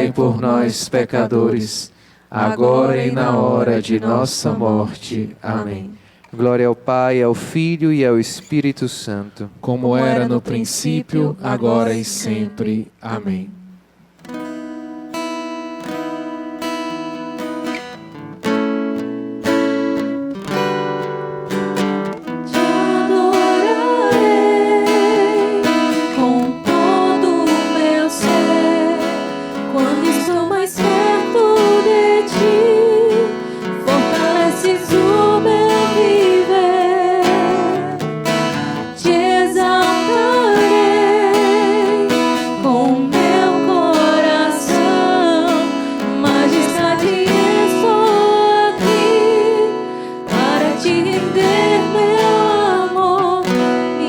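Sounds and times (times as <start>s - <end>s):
person singing with vibrato: 0.0s - 7.2s, 9.3s - 13.9s, 22.3s - 54.0s
strummed acoustic guitar: 0.0s - 8.7s, 13.3s - 54.0s.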